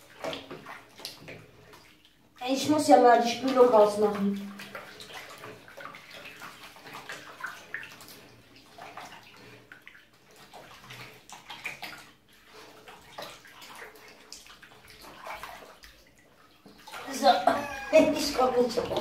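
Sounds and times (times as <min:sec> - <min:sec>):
water splashing in bathtub: 0:00.0 - 0:19.0.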